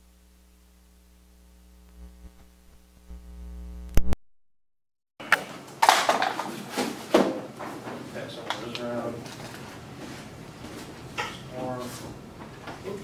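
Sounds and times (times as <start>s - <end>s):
electrical mains hum: 0.0s - 4.2s, 5.2s - 13.0s.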